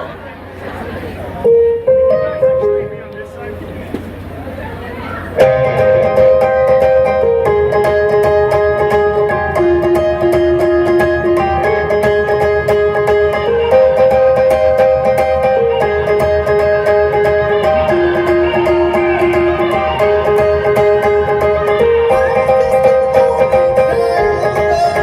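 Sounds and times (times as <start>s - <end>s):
sustained electric guitar notes: 1.4s - 25.0s.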